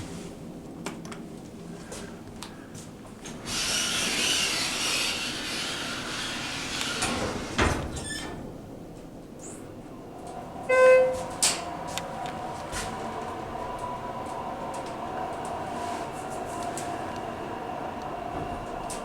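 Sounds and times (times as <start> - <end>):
elevator doors sliding: 3.3 - 19.0.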